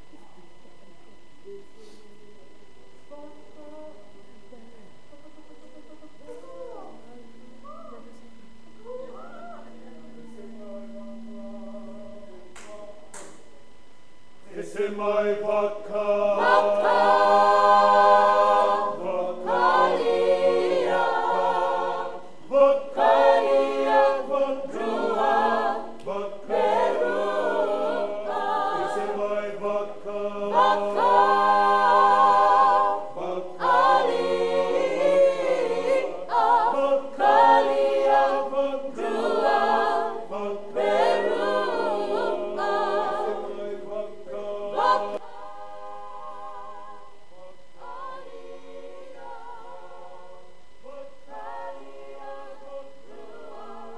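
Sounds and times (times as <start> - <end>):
group singing unaccompanied in harmony: 8.3 - 13.4, 14.2 - 53.9.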